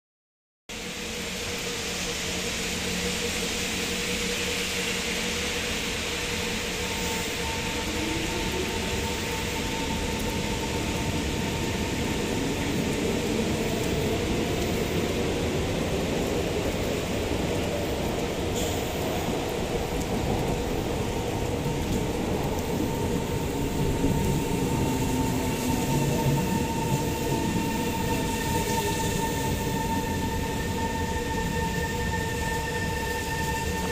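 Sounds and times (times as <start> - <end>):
steady rain: 0.7 - 33.9
train rumbling and whining: 0.7 - 33.9.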